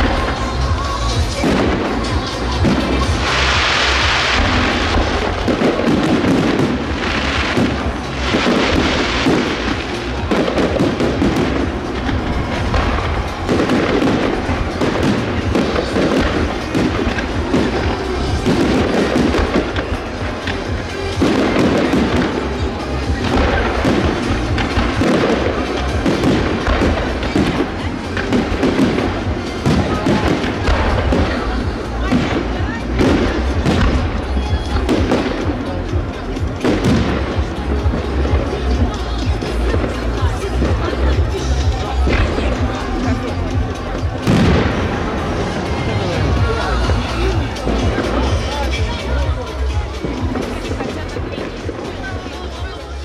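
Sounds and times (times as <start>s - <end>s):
fireworks bursting and crackling: 0.0s - 53.0s
music playing: 0.0s - 53.0s.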